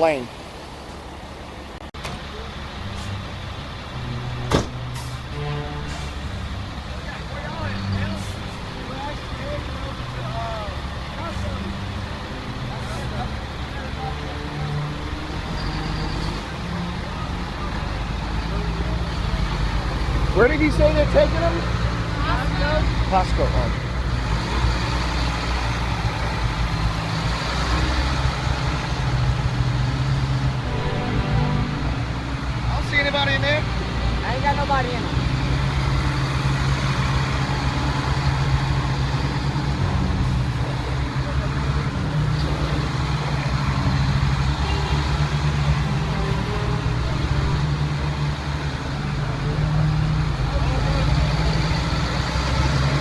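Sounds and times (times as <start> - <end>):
truck engines humming: 0.0 - 53.0.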